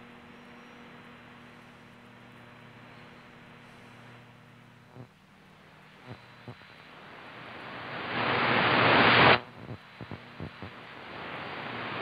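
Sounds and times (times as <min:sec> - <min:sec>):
radio static hiss: 0:01.0 - 0:12.0.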